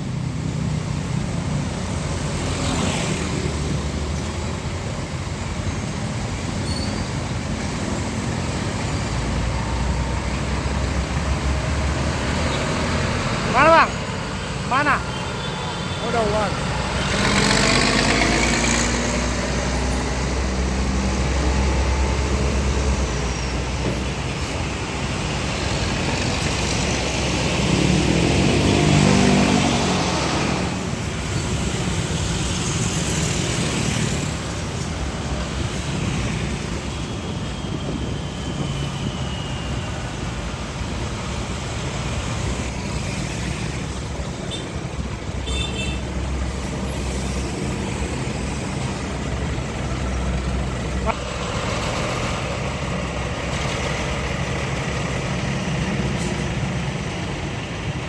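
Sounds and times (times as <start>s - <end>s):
diesel trucks passing: 0.0s - 58.0s.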